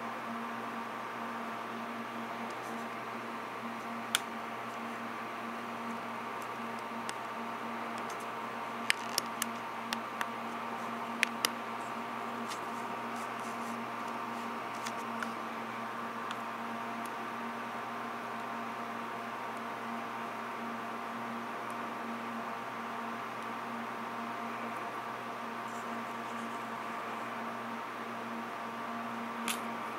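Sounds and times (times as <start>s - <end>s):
electrical hum and hiss: 0.0s - 29.9s.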